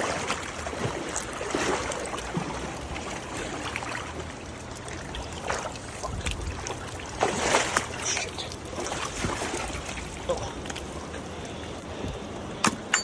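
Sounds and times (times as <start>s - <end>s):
water splashes: 0.0s - 12.9s
floodwater trickling and sloshing: 0.0s - 13.0s.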